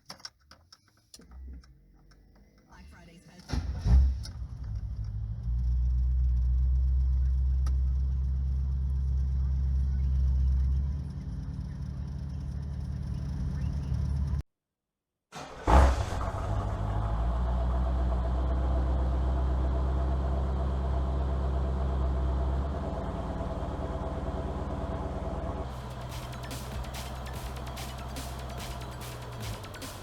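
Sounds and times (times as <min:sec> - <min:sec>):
vehicle engine running: 0:03.8 - 0:14.4, 0:15.9 - 0:30.0.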